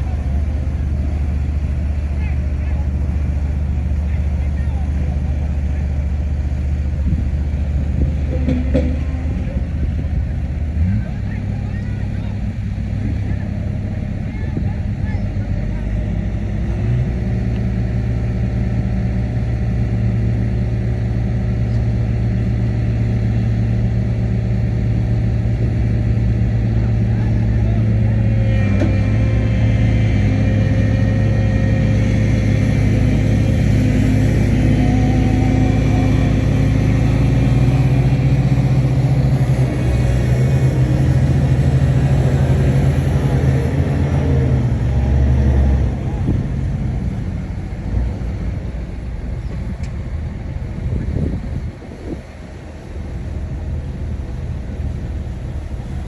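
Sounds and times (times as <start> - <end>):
diesel machine engine droning: 0.0 - 56.0.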